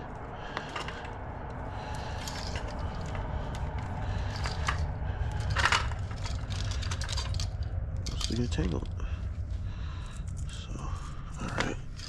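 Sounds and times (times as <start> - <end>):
low rumble: 0.0 - 12.0
cord being handled and uncoiled: 0.1 - 1.2, 1.8 - 12.0.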